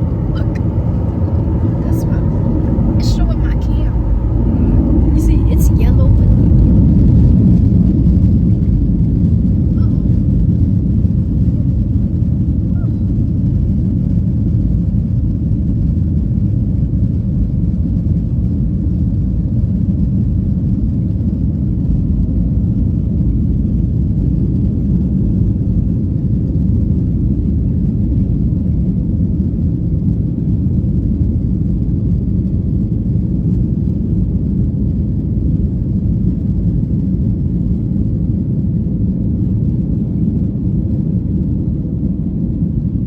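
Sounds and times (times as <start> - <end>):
airliner cabin drone: 0.0 - 43.0.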